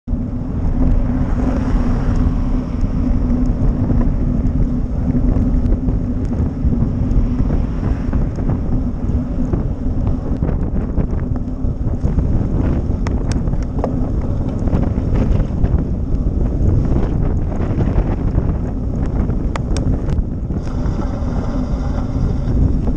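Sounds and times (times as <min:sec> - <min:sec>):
low hum: 0:00.0 - 0:22.9
wind buffeting microphone: 0:00.1 - 0:22.9.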